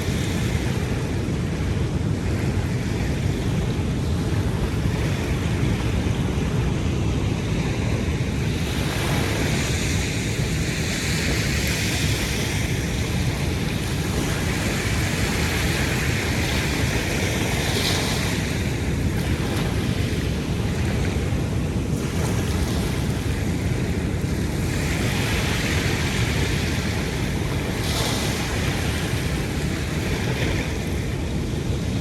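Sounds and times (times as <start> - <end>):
ocean waves washing ashore: 0.0 - 32.0
wind rumbling on microphone: 0.0 - 32.0.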